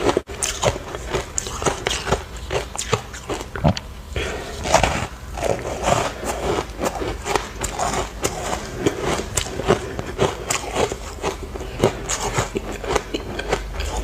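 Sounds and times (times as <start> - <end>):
ice crunching while chewed: 0.0 - 3.8, 4.5 - 14.0
wet mouth sounds: 0.0 - 14.0.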